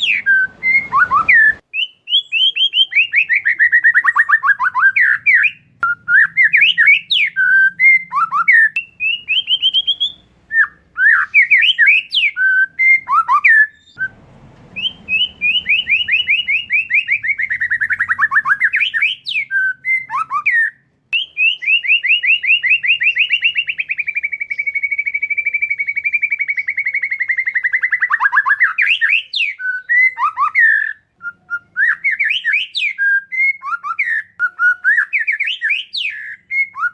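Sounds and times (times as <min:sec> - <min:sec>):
bird singing whistled phrases: 0:00.0 - 0:36.9.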